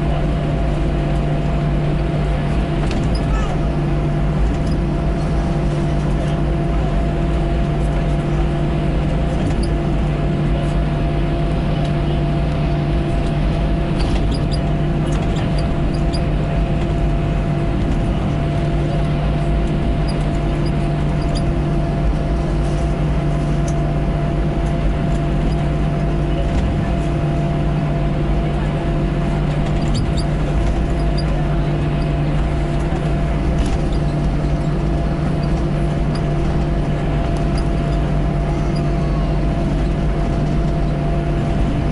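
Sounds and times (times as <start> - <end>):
airplane cabin engine drone: 0.0 - 41.9.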